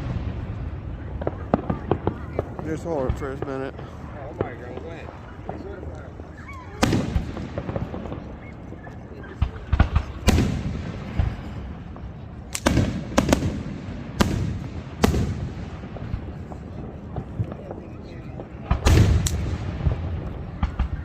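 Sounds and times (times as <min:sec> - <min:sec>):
fireworks exploding: 0:00.0 - 0:21.0.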